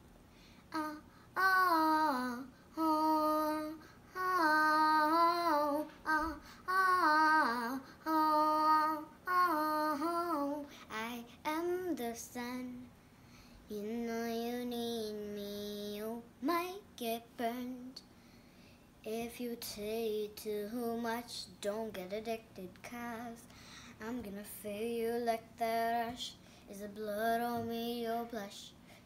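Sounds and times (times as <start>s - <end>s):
girl singing: 0.7s - 12.9s, 13.6s - 18.0s, 19.0s - 28.8s.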